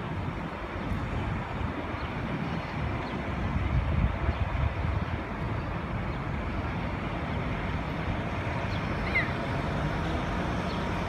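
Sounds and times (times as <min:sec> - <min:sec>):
traffic rumble: 0:00.0 - 0:11.0
wind buffeting microphone: 0:00.0 - 0:11.0.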